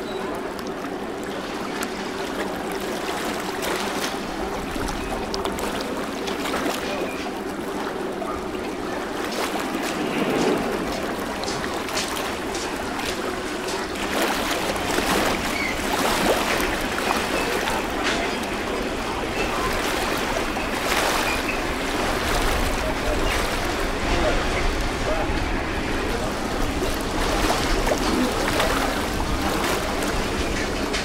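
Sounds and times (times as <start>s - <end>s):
boat engine hum: 0.0s - 31.0s
river water lapping: 0.0s - 31.0s.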